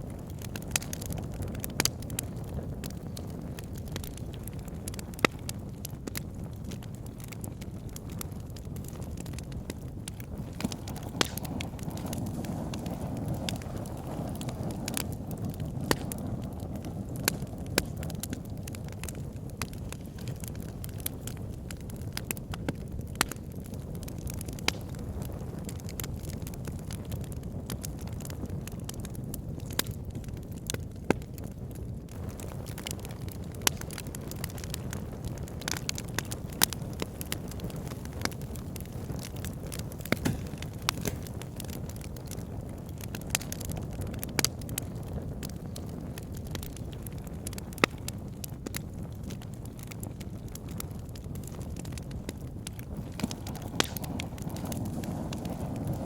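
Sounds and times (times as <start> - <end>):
burning logs rumbling: 0.0 - 56.0
fire pops and snaps: 0.0 - 56.0.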